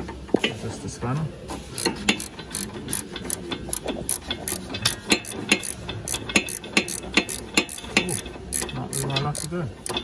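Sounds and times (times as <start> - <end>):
ratchet spanner clicking: 1.8 - 10.0.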